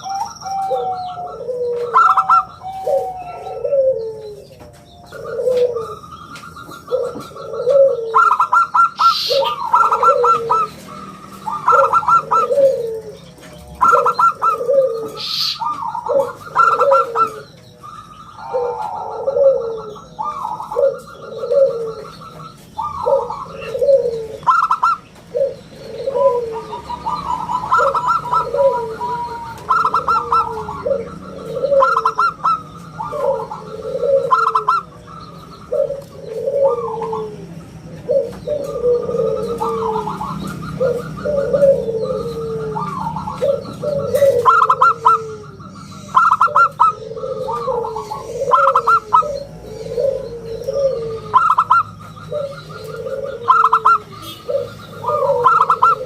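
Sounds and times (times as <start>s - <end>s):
dove singing trilled coos: 0.0s - 56.0s.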